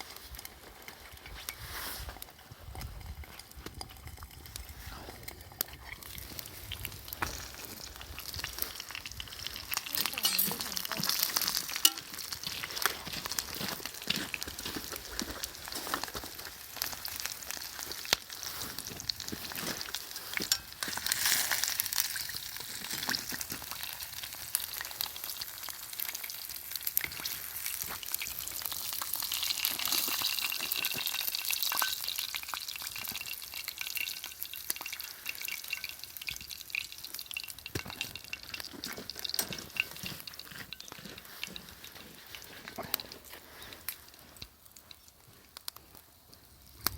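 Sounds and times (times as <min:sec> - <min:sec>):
meat sizzling over fire: 0:00.0 - 0:46.9.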